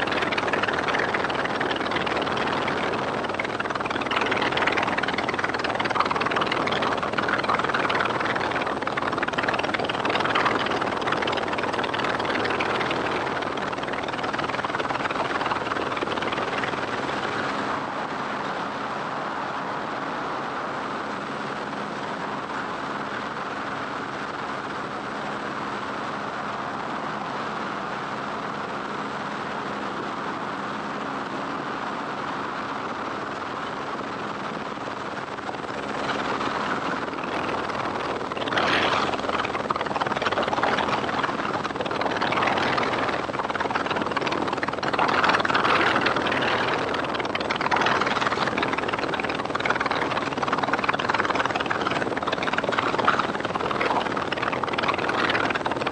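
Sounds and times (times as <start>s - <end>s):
helicopter flying: 0.0s - 55.9s.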